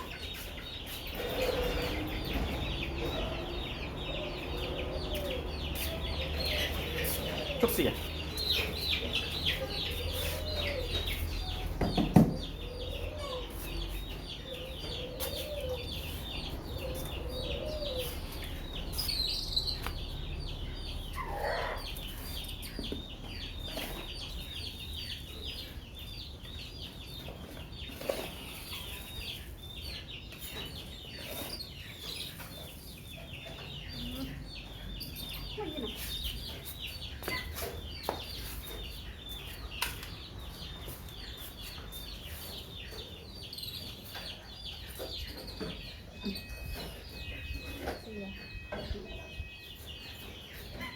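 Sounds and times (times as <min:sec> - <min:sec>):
young birds peeping: 0:00.0 - 0:50.9.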